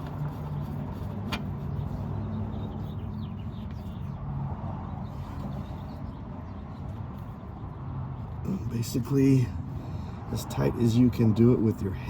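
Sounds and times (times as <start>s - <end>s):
low mechanical hum: 0.0s - 10.3s.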